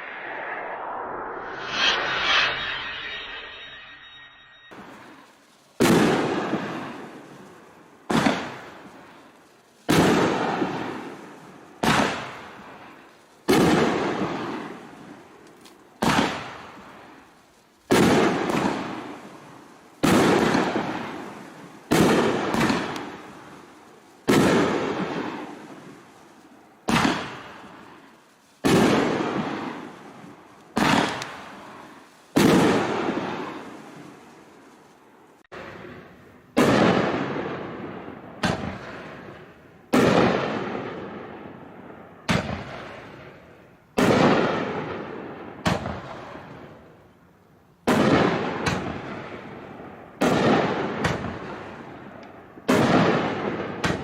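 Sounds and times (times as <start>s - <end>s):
firework crackling: 0.0s - 46.9s
firework bangs: 4.7s - 46.8s, 47.8s - 54.0s.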